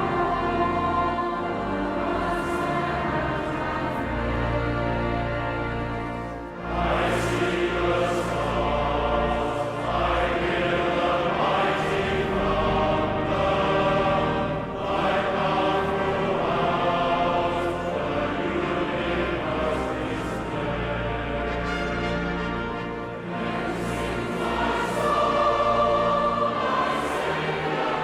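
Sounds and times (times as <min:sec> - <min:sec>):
group of voices singing: 0:00.0 - 0:28.0
sustained accompaniment: 0:00.0 - 0:28.0.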